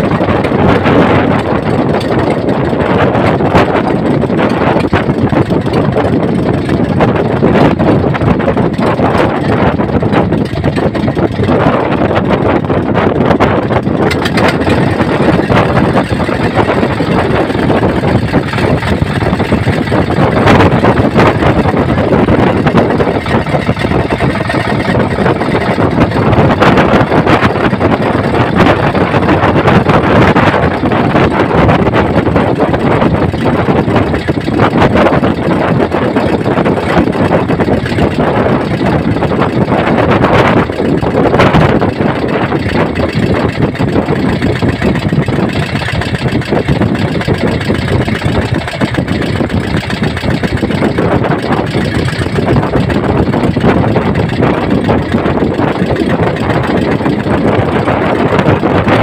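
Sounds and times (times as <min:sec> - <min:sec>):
rough sea: 0:00.0 - 0:59.0
strong wind: 0:00.0 - 0:59.0.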